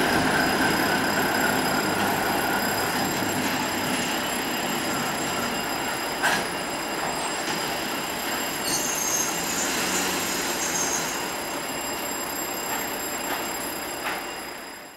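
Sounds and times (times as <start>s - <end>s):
diesel locomotive engine: 0.0s - 14.9s
wheels squealing on rails: 0.0s - 14.9s.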